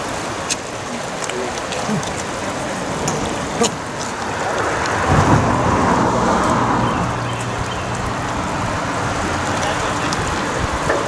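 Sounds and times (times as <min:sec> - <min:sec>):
creek water rushing over rocks: 0:00.0 - 0:11.0
low vehicle rumble: 0:01.8 - 0:11.0.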